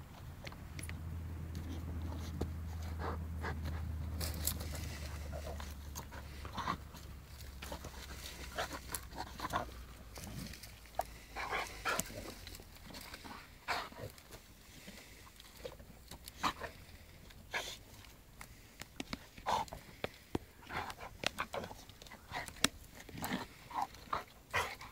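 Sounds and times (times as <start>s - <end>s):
rustling of dry grass and leaves: 0.0s - 24.9s.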